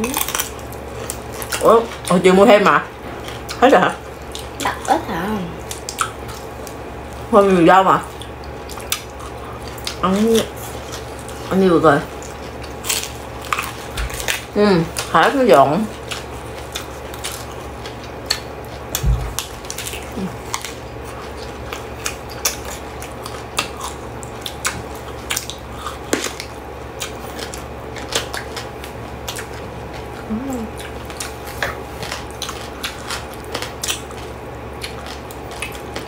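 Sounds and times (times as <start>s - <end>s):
crunching and chewing vegetables: 0.0s - 36.0s.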